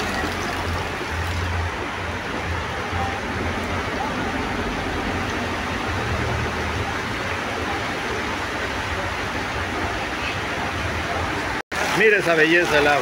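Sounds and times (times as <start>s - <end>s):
bus engine hum: 0.0s - 11.6s
heavy rain and water rushing: 0.0s - 13.0s.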